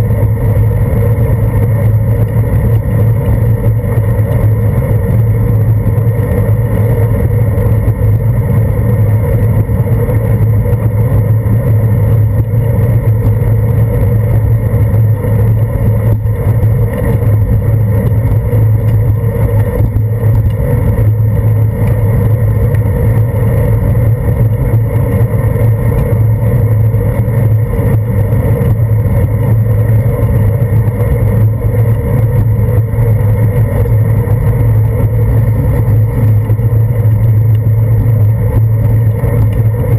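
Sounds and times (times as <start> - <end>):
bicycle riding on wet pavement: 0.0 - 39.9
wind noise: 0.0 - 39.9.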